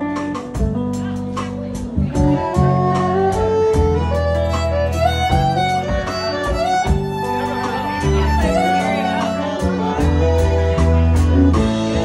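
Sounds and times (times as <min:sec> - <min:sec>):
fiddle lead melody: 0:00.0 - 0:12.0
live country band playing: 0:00.0 - 0:12.0.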